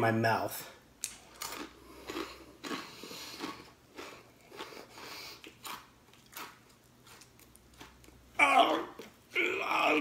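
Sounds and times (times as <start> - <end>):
crunchy snack chewing: 1.0 - 9.2.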